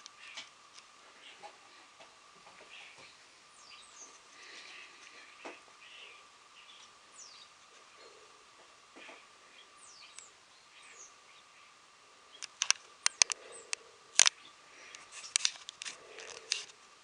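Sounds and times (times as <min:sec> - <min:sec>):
starlings pecking at feeder: 0:00.0 - 0:17.0.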